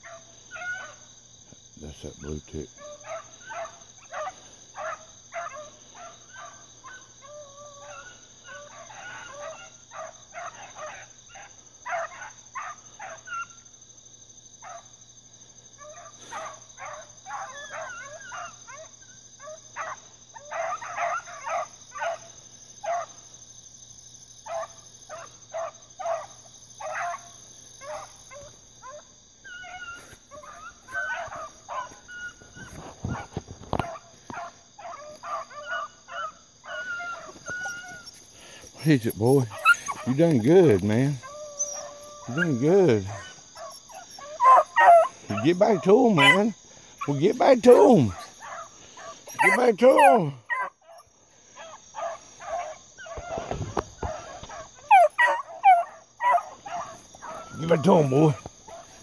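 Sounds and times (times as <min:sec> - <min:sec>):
high insect drone: 0:00.0 - 0:59.0
hounds baying: 0:00.0 - 0:59.0.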